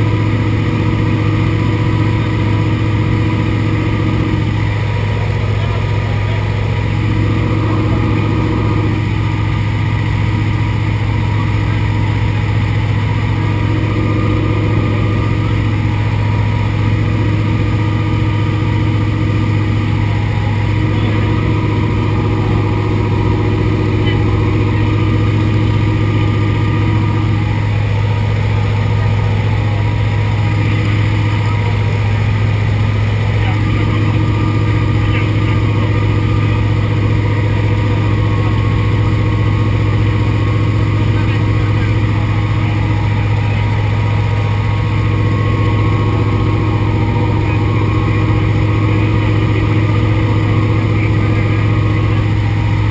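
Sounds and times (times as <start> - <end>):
propeller plane engine droning: 0.0 - 52.9.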